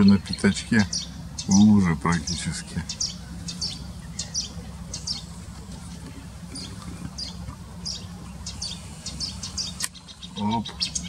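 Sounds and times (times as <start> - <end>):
steady low hum: 0.0 - 11.0
warbler singing: 0.0 - 11.0.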